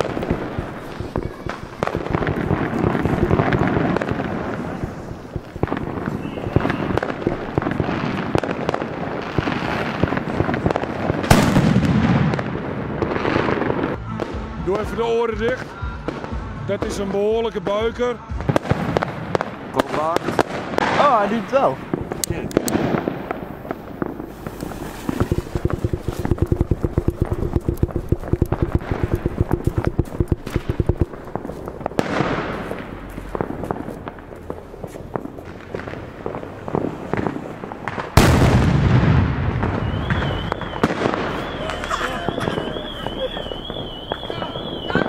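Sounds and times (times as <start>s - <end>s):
firecrackers popping and crackling: 0.0s - 45.0s
fireworks rumble: 0.0s - 45.0s.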